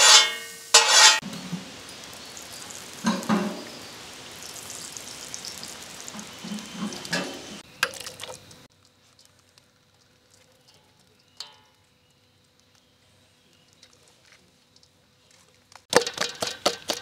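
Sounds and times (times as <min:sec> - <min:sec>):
oil sizzling on griddle: 0:00.0 - 0:17.0.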